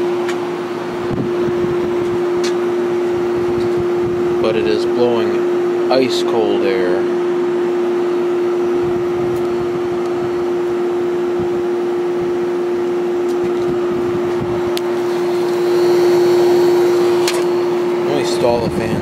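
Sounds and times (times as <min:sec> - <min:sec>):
blower rushing: 0:00.0 - 0:19.0
window air conditioner humming: 0:00.0 - 0:19.0.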